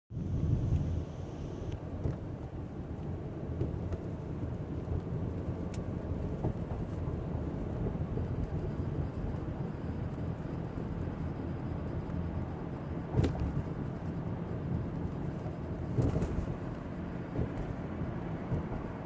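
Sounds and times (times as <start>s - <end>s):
car engine buzz and rumble: 0.1s - 19.0s.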